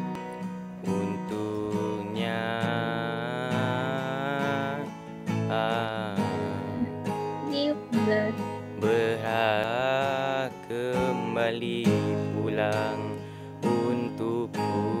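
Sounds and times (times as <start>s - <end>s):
strummed acoustic guitar: 0.0s - 15.0s
man singing a slow ballad: 0.8s - 7.1s, 8.6s - 15.0s.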